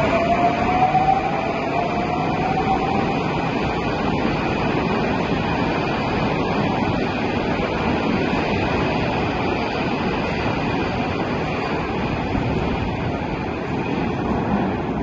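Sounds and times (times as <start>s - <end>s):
metro train rumbling past: 0.0s - 15.0s.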